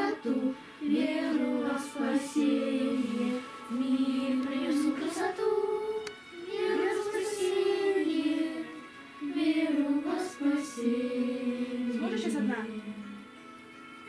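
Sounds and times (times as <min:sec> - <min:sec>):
girls singing together: 0:00.0 - 0:13.2.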